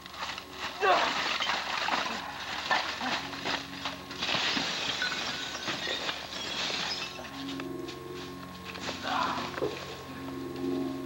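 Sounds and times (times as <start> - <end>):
dry leaves and brush crunching: 0.0 - 11.0.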